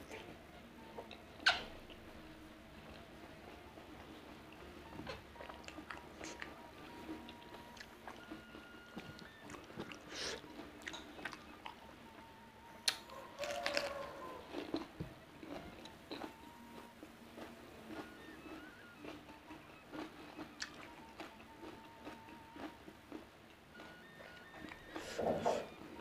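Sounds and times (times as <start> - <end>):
close chewing: 0.0 - 2.0, 2.8 - 26.0.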